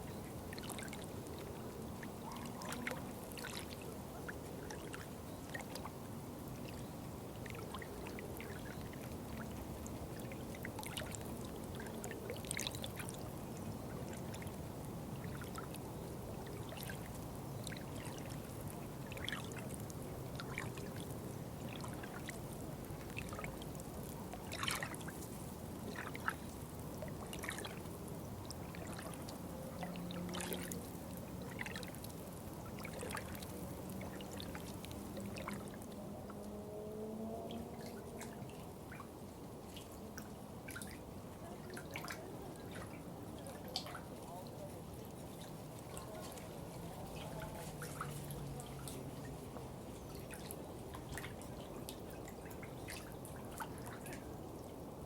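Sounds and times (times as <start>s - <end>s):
small water splashes: 0.0s - 55.0s
water flowing and trickling: 0.0s - 55.0s.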